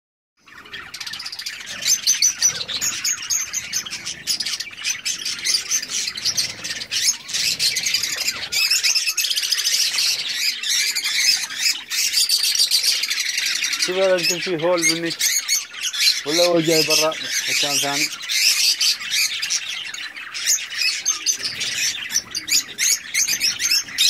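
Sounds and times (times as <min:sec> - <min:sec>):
budgerigars chattering: 0:00.4 - 0:24.0.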